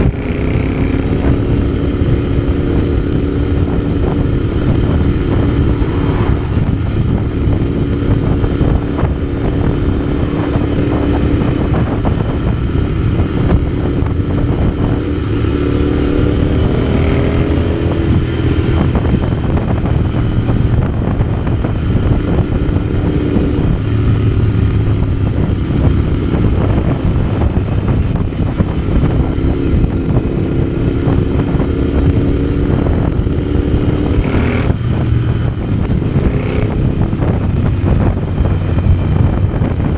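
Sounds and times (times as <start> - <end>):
motorcycle engine accelerating: 0.0 - 39.9
wind and road rumble: 0.0 - 39.9.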